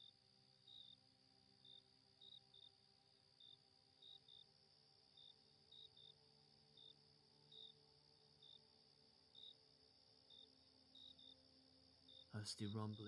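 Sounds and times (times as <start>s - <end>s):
crickets chirping: 0.0s - 13.0s
soft ambient music pad: 0.0s - 13.0s.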